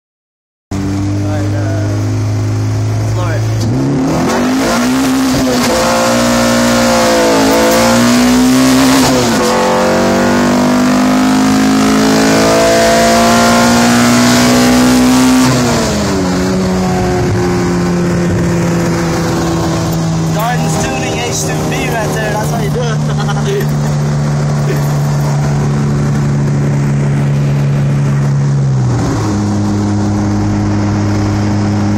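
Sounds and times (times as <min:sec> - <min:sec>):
car engine at full throttle: 0:00.7 - 0:31.9.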